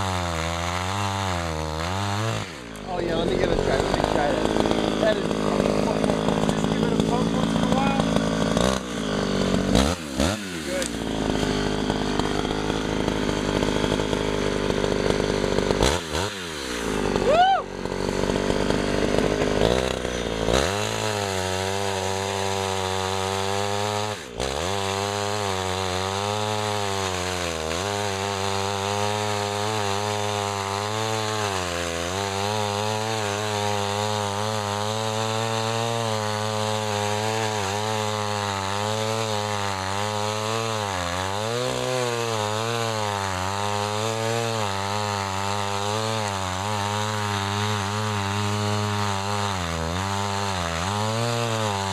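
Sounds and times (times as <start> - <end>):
chainsaw running: 0.0 - 51.9.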